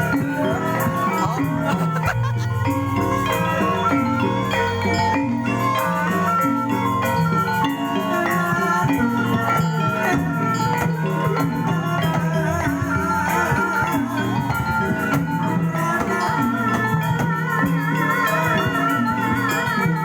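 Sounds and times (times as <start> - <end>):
gamelan percussion ensemble: 0.0 - 20.0
wavering high melody: 0.0 - 20.0.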